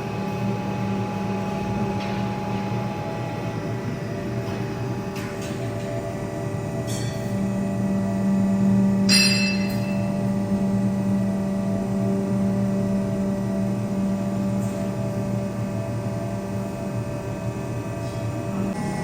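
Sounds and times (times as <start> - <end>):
electric drive hum: 0.0 - 19.0.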